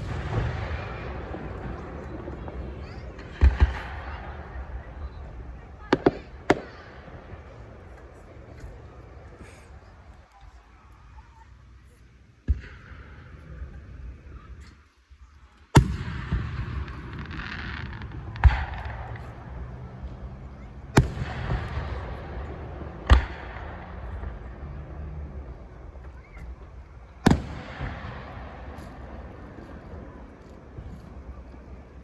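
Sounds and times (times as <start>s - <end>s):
fireworks bangs: 0.0s - 10.9s, 12.3s - 32.0s.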